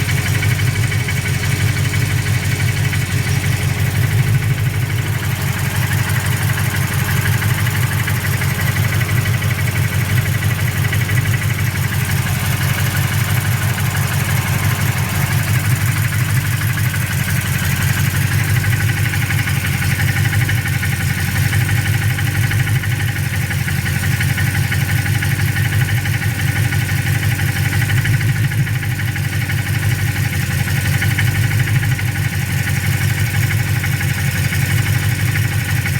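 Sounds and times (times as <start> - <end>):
engine idling with knocking: 0.0 - 35.9.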